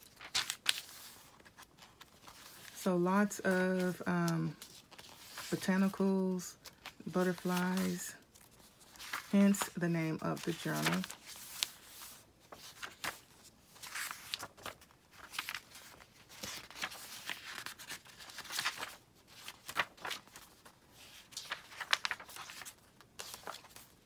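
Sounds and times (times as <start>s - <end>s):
paper pages rustling: 0.0s - 24.0s.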